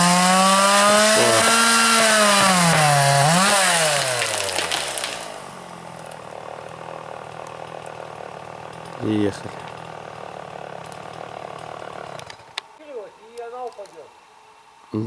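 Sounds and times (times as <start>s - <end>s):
chainsaw running high-pitched: 0.0s - 12.6s.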